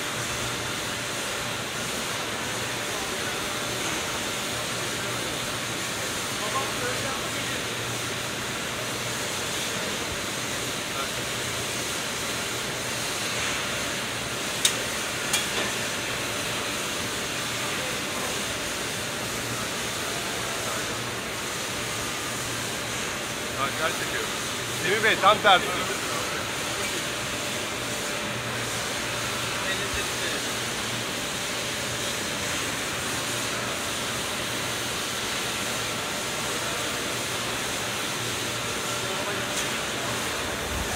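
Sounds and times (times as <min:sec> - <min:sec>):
machine hiss with low hum: 0:00.0 - 0:40.9.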